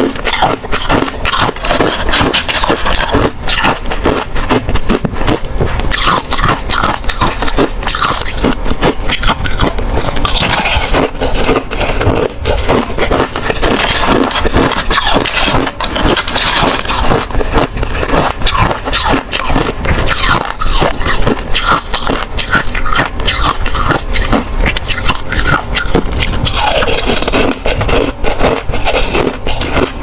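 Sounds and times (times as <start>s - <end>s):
ice cubes crunched by teeth: 0.0s - 30.0s.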